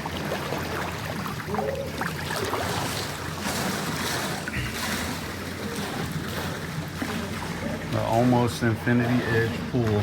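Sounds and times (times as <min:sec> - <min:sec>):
outdoor water ambience: 0:00.0 - 0:10.0.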